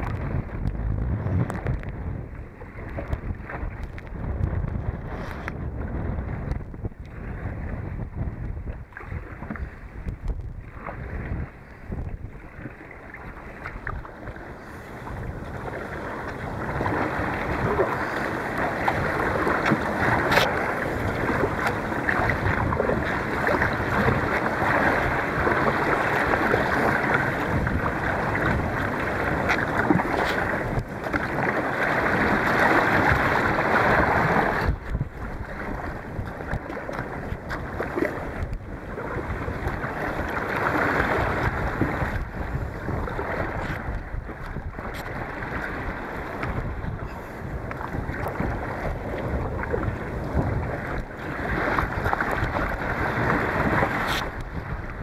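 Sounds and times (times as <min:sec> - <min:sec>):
choppy water splashing: 0:00.0 - 0:55.0
wind buffeting microphone: 0:00.0 - 0:55.0.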